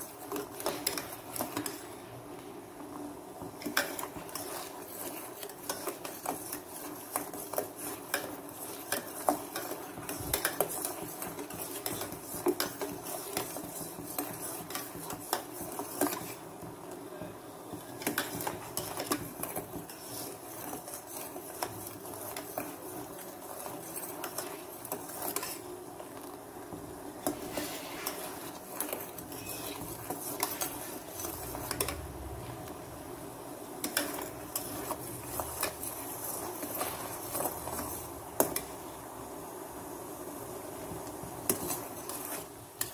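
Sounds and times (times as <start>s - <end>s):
spoon scraping seeds in pan: 0.0s - 1.9s, 3.6s - 16.5s, 17.8s - 26.1s, 27.2s - 32.1s, 33.8s - 38.8s, 41.4s - 42.9s.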